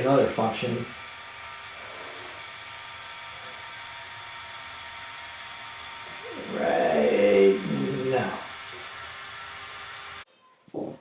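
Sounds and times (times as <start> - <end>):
small electric motor whirring: 0.0 - 10.3.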